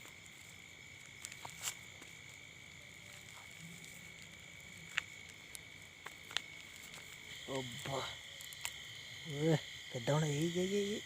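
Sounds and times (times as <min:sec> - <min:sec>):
frogs and insects trilling: 0:00.0 - 0:11.0.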